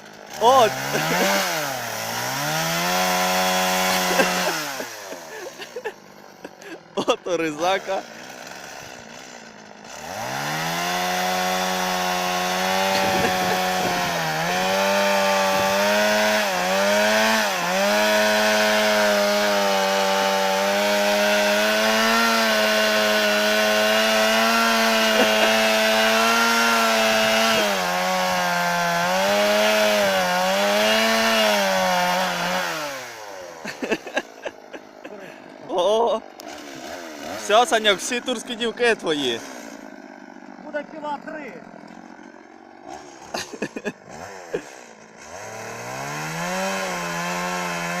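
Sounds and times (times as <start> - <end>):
chainsaw revving and cutting: 0.0 - 48.0.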